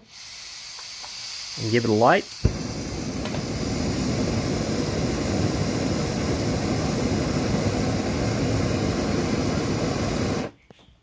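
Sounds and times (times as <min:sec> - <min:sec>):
gas stove burner roaring: 0:00.0 - 0:10.6.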